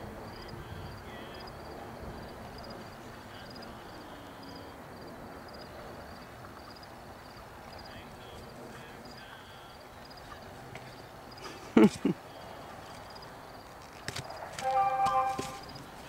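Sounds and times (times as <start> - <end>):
low outdoor rumble: 0.0 - 13.8
insects chirping: 0.0 - 16.0.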